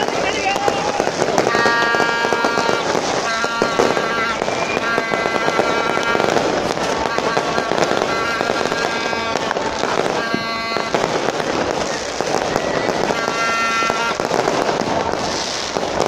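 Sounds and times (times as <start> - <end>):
fireworks crackling and popping: 0.0 - 16.0.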